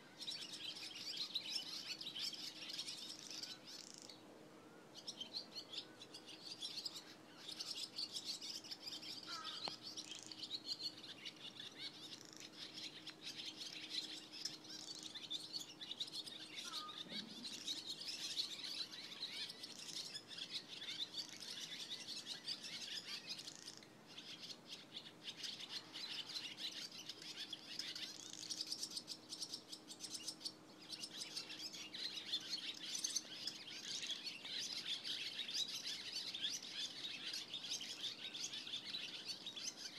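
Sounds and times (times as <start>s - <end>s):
swallows twittering: 0.0s - 39.9s.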